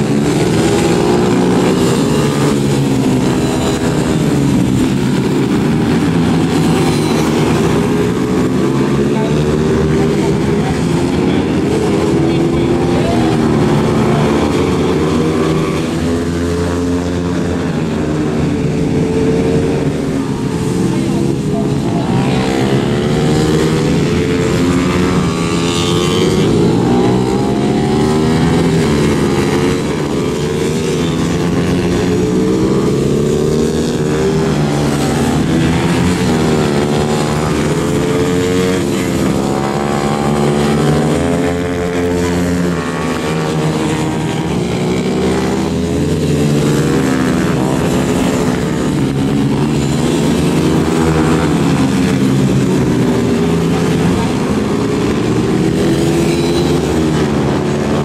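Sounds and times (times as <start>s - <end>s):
race motorcycle engines revving: 0.0s - 58.0s.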